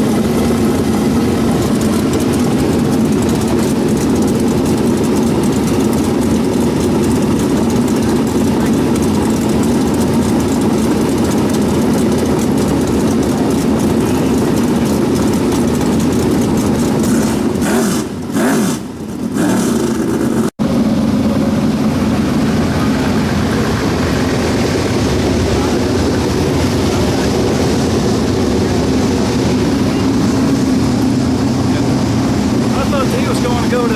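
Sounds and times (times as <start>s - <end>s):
race car engines droning: 0.0s - 33.9s.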